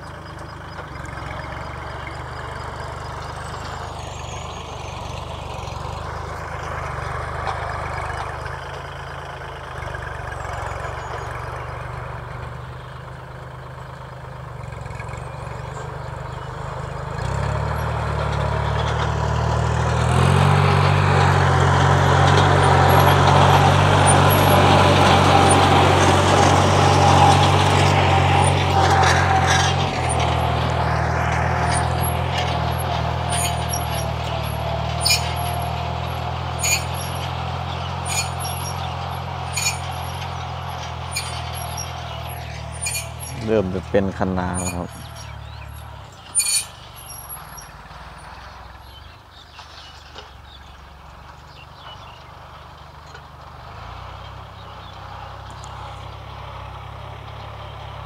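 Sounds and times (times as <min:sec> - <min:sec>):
tractor diesel engine: 0:00.0 - 0:58.0.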